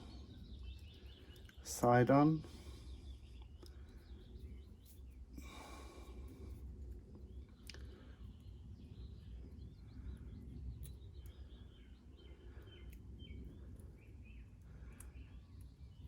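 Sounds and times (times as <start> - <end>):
bird chirping: 0.0 - 6.4, 7.2 - 16.0.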